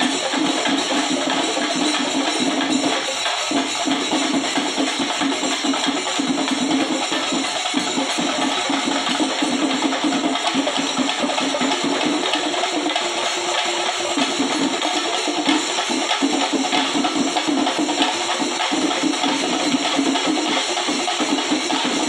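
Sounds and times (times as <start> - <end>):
drums beaten with sticks: 0.0 - 22.0.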